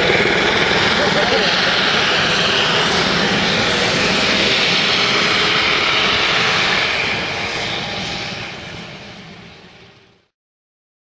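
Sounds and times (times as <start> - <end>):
helicopter engine and rotors: 0.0 - 10.3.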